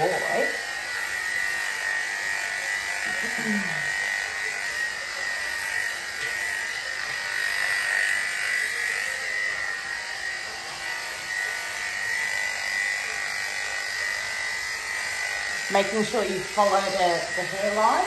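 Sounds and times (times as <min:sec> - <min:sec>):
electric clippers buzzing: 0:00.0 - 0:18.0.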